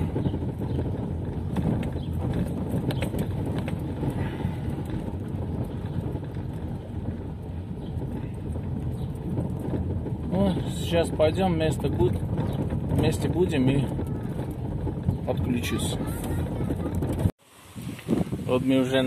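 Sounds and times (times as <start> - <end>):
small rattles and clicks: 0.0 - 17.3
car engine and road rumble: 0.0 - 19.0.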